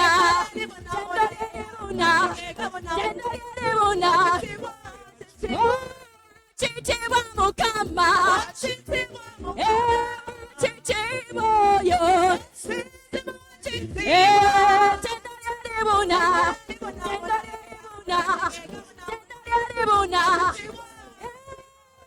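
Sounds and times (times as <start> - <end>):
woman singing a worship song: 0.0 - 22.0.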